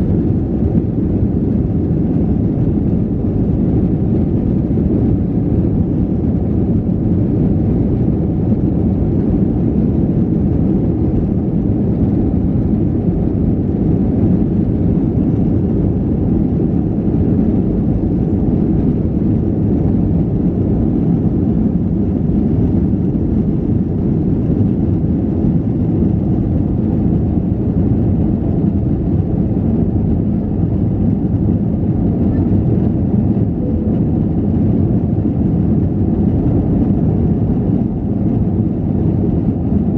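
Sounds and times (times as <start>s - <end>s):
airflow around fuselage: 0.0s - 39.9s
jet engine rumble: 0.0s - 39.9s.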